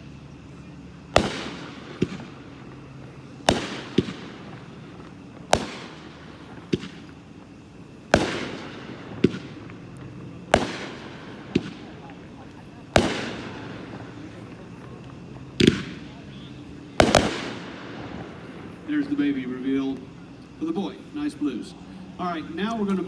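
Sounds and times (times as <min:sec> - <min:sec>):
firework bangs: 0:00.0 - 0:23.0.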